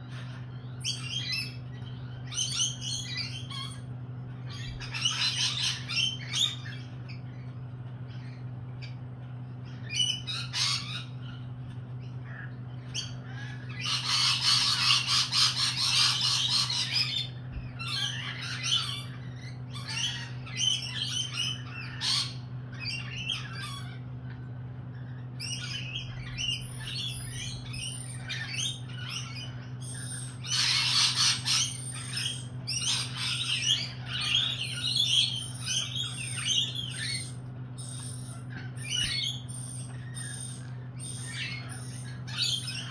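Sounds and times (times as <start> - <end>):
lorikeets chattering: 0.0 - 42.9
low hum: 0.0 - 42.9.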